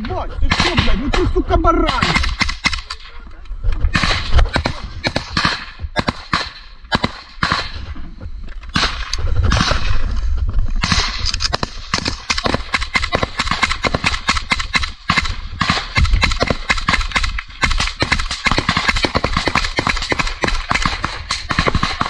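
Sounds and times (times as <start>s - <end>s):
suppressed rifle shots: 0.5s - 3.2s, 3.8s - 8.0s, 8.7s - 10.0s, 10.8s - 22.0s.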